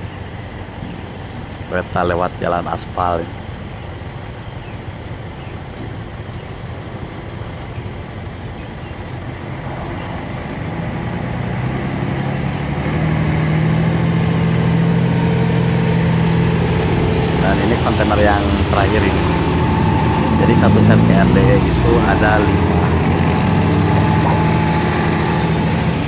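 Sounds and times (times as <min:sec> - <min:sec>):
truck diesel engine drone: 0:00.0 - 0:26.0.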